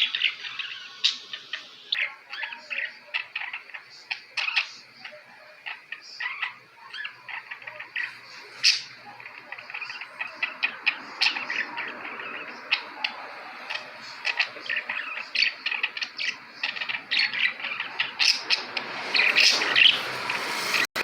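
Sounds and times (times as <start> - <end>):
budgerigars chirping and chattering: 0.0 - 20.8.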